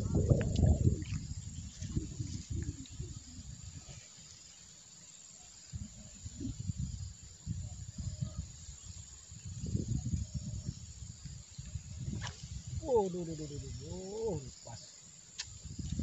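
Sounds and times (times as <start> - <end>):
wind buffeting microphone: 0.0 - 4.4, 5.6 - 14.8, 15.4 - 16.0
high-pitched insect chorus: 0.0 - 16.0.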